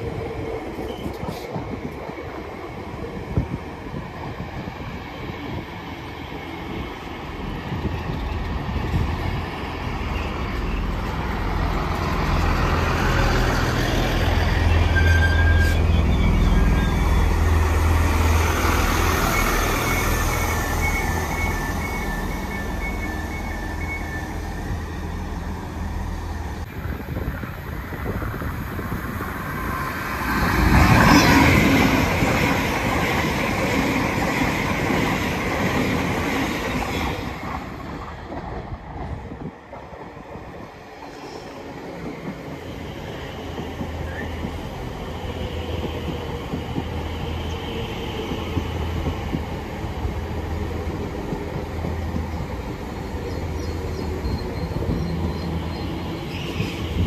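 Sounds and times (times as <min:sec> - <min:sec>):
electric train running along platform: 0:00.0 - 0:57.0
train noise: 0:00.0 - 0:57.0.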